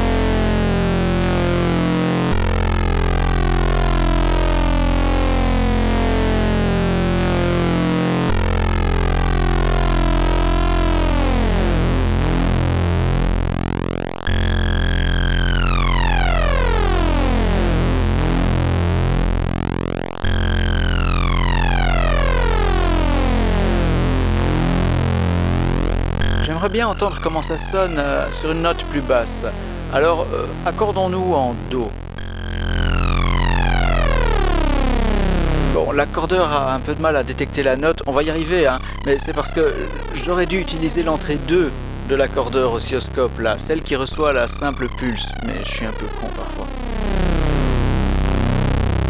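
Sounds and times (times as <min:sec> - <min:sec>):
buzzing synthesizer drone: 0:00.0 - 0:49.0
steady synth bass: 0:00.0 - 0:49.0.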